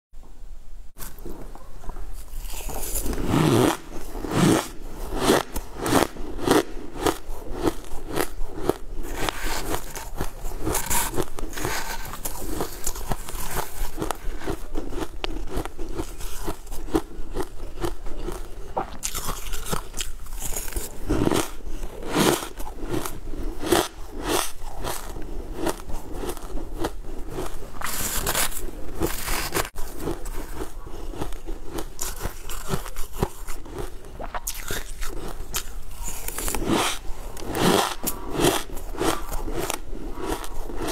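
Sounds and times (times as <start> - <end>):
crunching and chewing shaved ice: 1.9 - 40.9.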